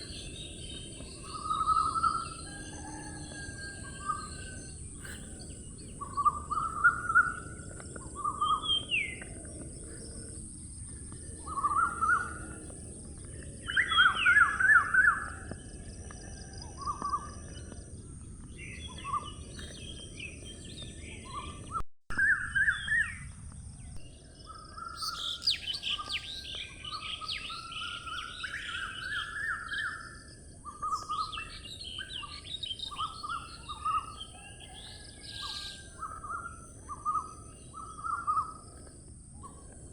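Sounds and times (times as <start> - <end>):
birds chirping: 0.0 - 21.8, 24.0 - 39.9.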